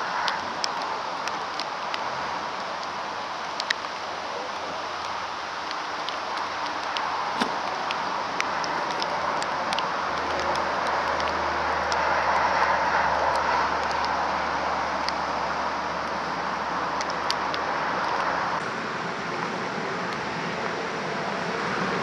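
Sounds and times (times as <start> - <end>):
rushing mechanical noise: 0.0 - 22.0.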